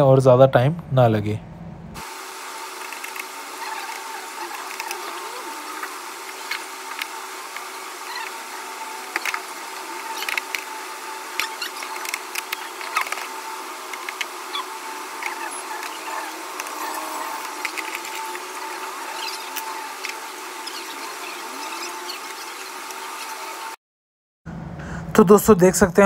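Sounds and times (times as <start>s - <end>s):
steady hum: 0.0s - 23.8s.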